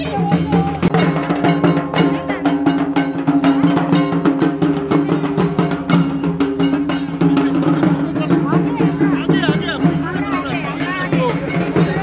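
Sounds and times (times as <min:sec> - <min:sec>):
drums beaten with sticks: 0:00.0 - 0:12.0.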